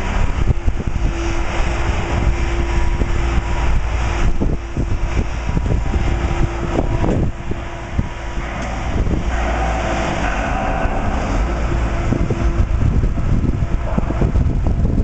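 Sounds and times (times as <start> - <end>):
constant hum: 0.0 - 15.0
low machinery rumble: 0.0 - 15.0.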